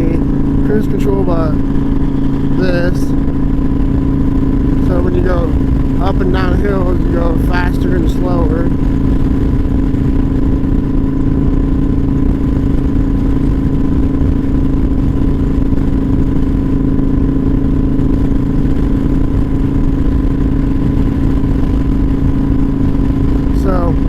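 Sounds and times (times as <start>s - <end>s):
motorcycle engine cruising: 0.0s - 24.0s
wind rush: 0.0s - 24.0s.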